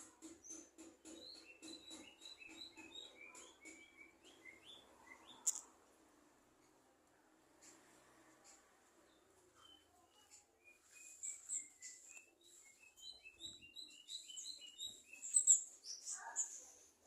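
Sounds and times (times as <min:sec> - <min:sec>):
small birds chirping: 0:00.0 - 0:05.8, 0:07.6 - 0:17.0.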